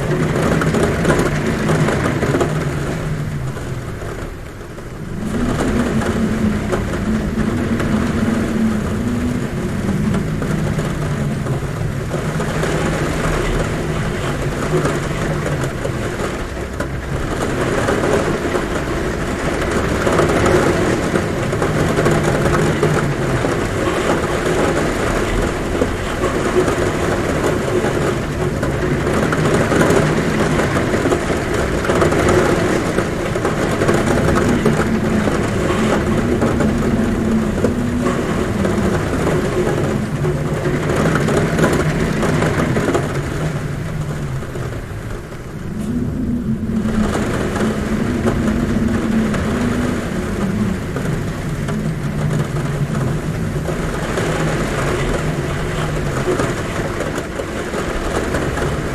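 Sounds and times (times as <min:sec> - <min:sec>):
heavy rain on a roof: 0:00.0 - 0:58.9
wind humming: 0:00.0 - 0:58.9.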